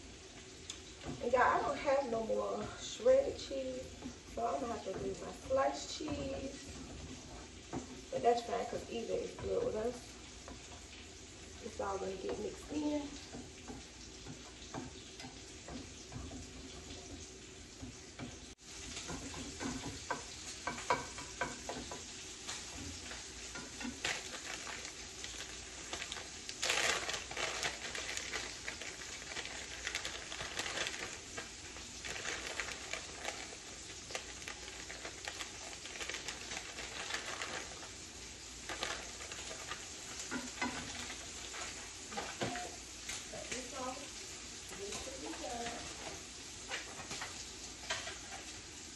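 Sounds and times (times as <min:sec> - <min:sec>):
eggs sizzling in a frying pan: 0:00.0 - 0:48.9.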